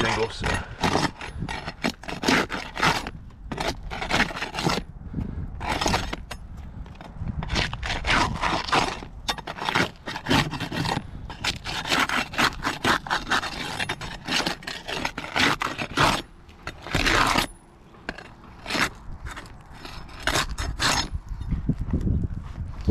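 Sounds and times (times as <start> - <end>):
roof shingles scraping and crackling: 0.0 - 4.8, 6.9 - 21.1.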